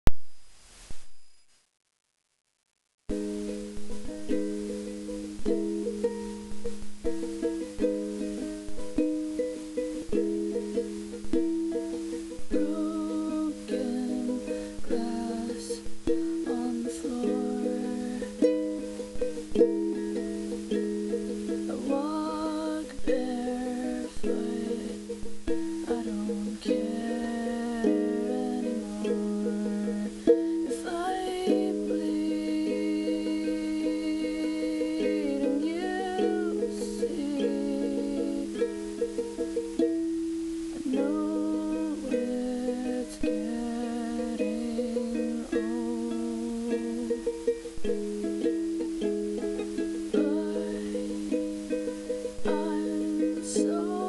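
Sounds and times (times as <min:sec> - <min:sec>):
ukulele chords strummed: 0:03.1 - 0:54.0.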